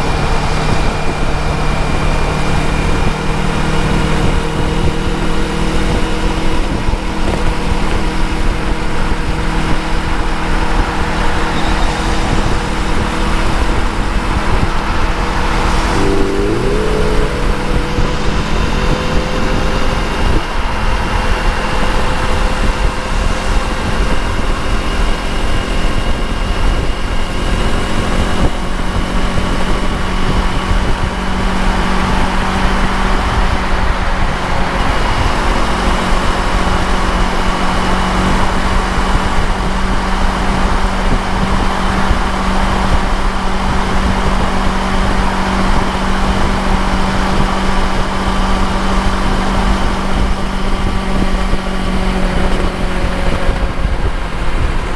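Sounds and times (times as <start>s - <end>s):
motorcycle engine cruising: 0.0s - 54.9s
wind and road noise: 0.0s - 54.9s.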